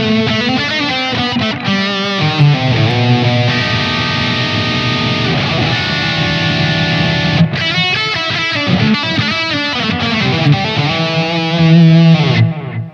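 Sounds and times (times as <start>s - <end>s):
overdriven electric guitar: 0.0s - 12.9s.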